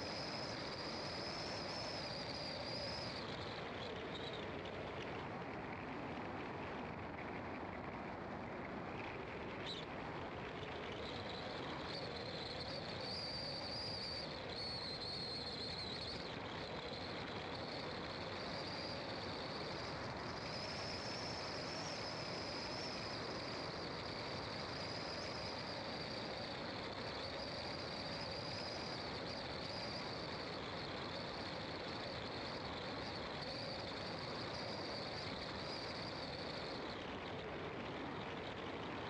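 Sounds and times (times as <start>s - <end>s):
car engine and tyre noise: 0.0s - 39.0s.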